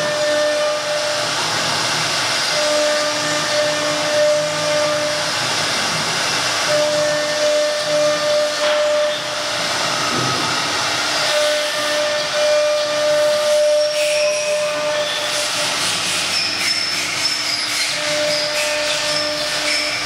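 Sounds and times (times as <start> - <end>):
high spindle whine: 0.0 - 20.0
router cutting wood hiss: 0.0 - 20.0.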